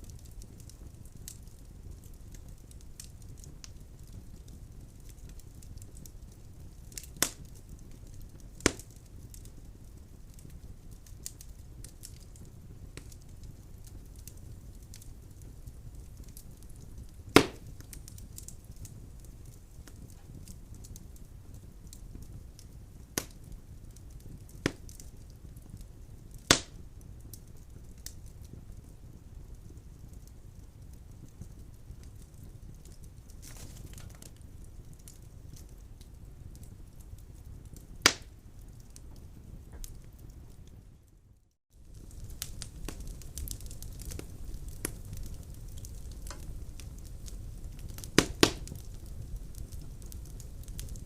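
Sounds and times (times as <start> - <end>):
burning logs popping: 0.0 - 41.1, 41.7 - 51.0
wood fire crackling: 0.0 - 51.0.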